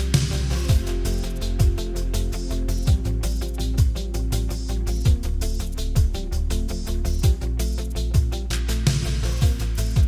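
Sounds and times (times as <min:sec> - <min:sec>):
sustained bass notes: 0:00.0 - 0:10.0.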